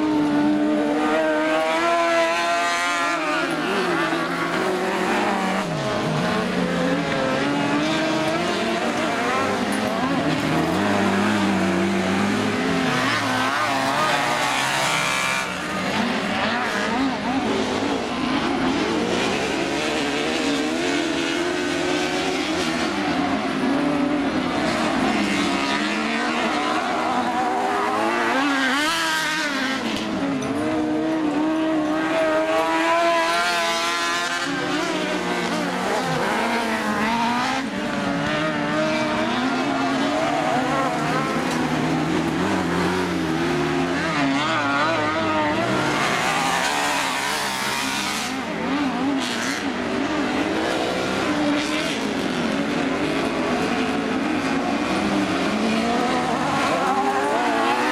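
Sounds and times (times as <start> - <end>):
buggy engines revving: 0.0 - 57.9.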